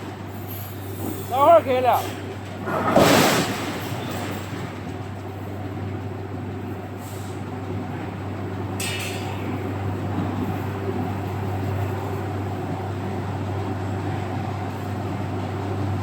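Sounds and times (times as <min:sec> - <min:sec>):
machinery humming and rumbling: 0:00.0 - 0:16.0.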